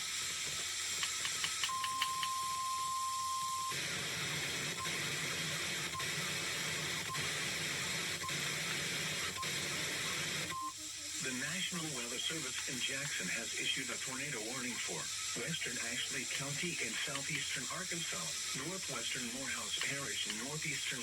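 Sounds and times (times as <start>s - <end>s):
steady hiss: 3.8s - 21.0s.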